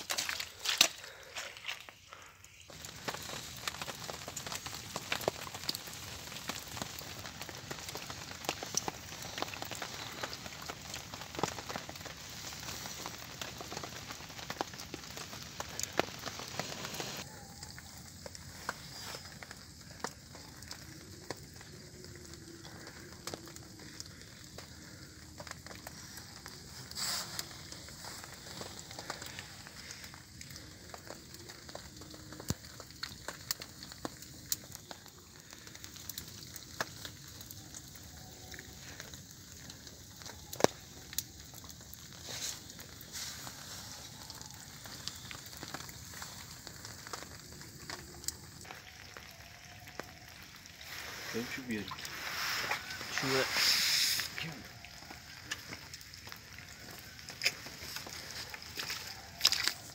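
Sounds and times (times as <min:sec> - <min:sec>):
rain pattering: 0:00.0 - 0:59.9
small fire crackling: 0:00.0 - 0:59.9.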